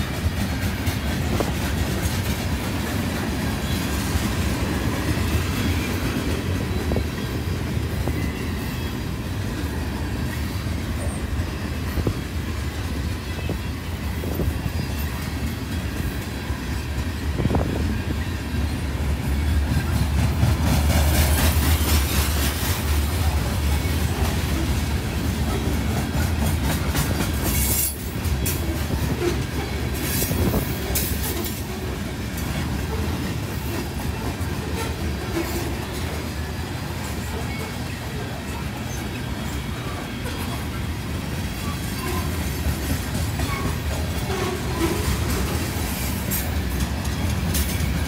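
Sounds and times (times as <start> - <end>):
train wheel clacks: 0.0 - 48.0
train wheels rumbling on rail: 0.0 - 48.0.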